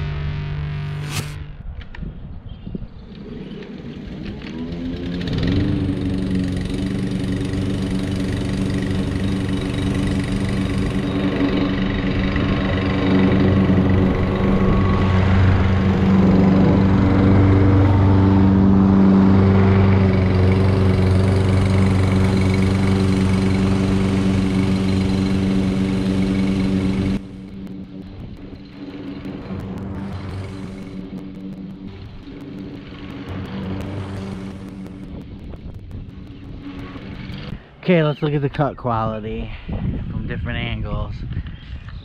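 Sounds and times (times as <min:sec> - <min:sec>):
lawn mower engine running: 0:03.8 - 0:37.8.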